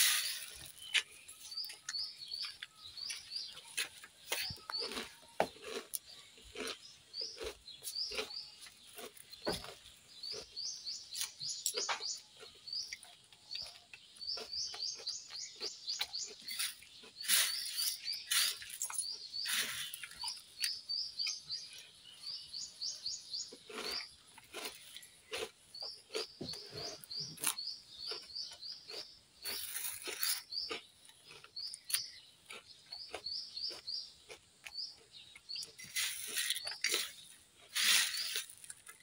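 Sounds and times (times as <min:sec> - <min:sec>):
puffed rice crackling being chewed: 0:00.0 - 0:22.2, 0:23.4 - 0:39.0
small birds chirping: 0:00.0 - 0:39.0.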